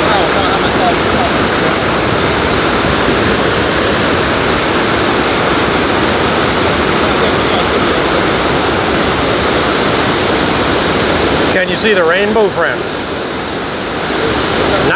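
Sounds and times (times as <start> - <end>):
waterfall roaring: 0.0 - 14.9.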